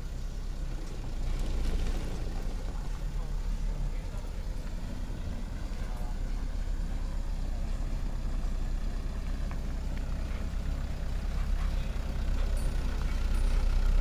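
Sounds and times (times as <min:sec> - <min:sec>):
diesel truck engine at low revs: 0:00.0 - 0:14.0.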